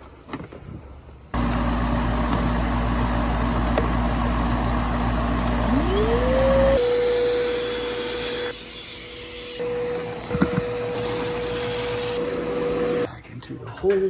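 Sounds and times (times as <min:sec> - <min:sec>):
vacuum motor whining: 0:01.4 - 0:13.1.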